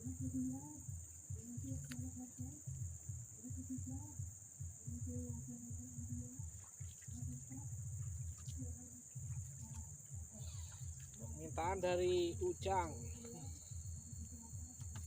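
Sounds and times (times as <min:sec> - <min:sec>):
insects chirring: 0:00.0 - 0:15.0
low background rumble: 0:00.0 - 0:15.0.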